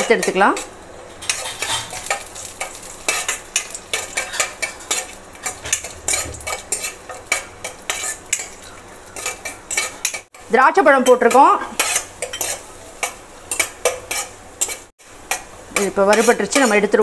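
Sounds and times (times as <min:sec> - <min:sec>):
hot oil sizzling: 0:00.0 - 0:17.0
spoon scraping and clinking pan: 0:00.2 - 0:08.6, 0:09.2 - 0:10.3, 0:11.0 - 0:16.8.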